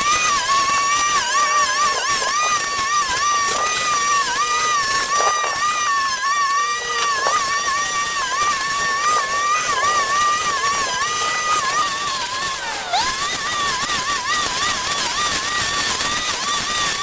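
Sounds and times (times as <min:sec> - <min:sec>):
small engine whining: 0:00.0 - 0:17.0.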